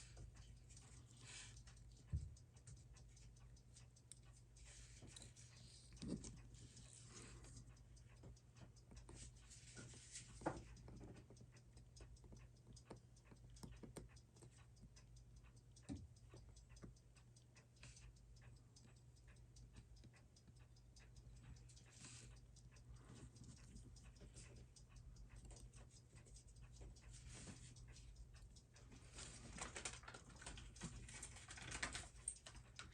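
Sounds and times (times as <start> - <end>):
watch ticking: 0.0 - 32.9.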